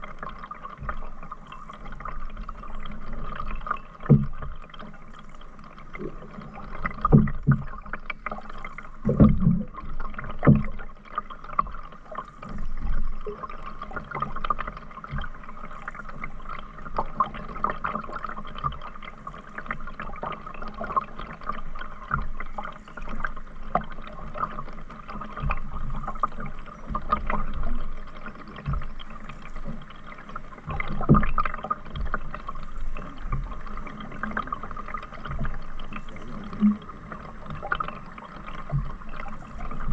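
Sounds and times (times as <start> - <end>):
paddle strokes in water: 0.0 - 39.9.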